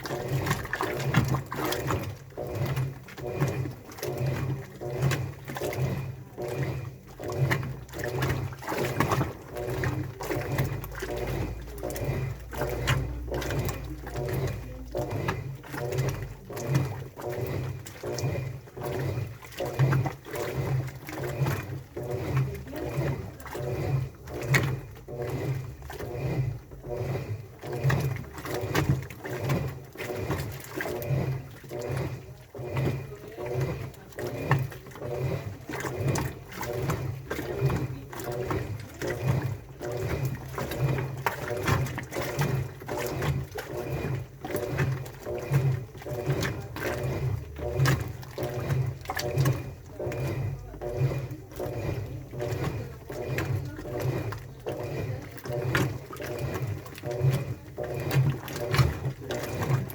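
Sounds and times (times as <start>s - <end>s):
washing machine drum sloshing: 0.0s - 59.9s
washing machine motor hum: 0.0s - 59.9s.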